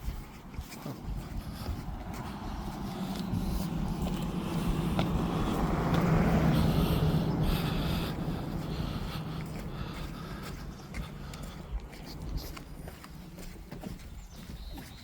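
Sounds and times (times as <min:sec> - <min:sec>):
road vehicle passing by: 0:00.4 - 0:14.4.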